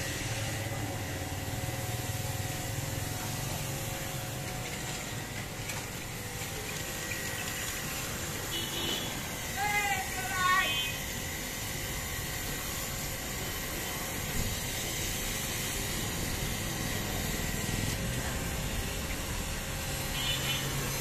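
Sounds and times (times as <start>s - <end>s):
pressure washer spraying: 0.0s - 21.0s.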